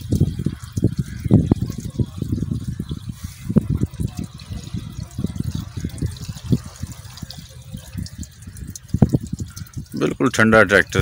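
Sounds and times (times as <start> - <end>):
water glugging from a jerrycan: 0.0 - 11.0.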